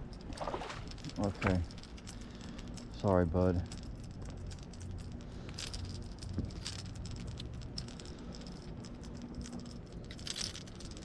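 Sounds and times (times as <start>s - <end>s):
fishing lure and hooks rattling: 0.0s - 11.0s.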